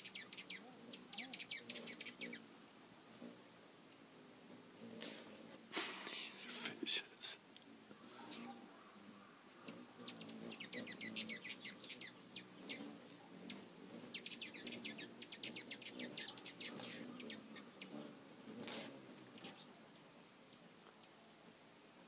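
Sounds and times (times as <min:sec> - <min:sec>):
hummingbirds chattering: 0:00.0 - 0:21.2.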